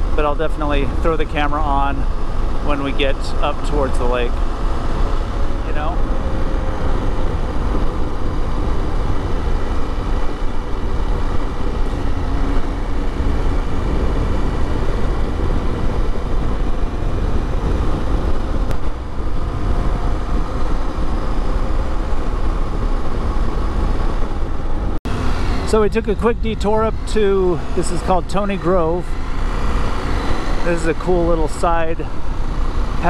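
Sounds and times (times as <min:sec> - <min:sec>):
motorcycle engine drone: 0:00.0 - 0:33.0
wind buffeting microphone: 0:00.0 - 0:33.0.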